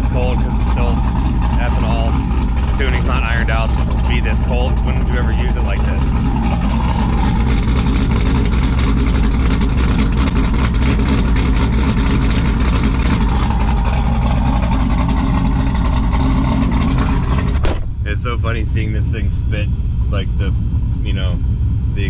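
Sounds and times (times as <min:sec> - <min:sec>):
engine deep rumble: 0:00.0 - 0:22.0.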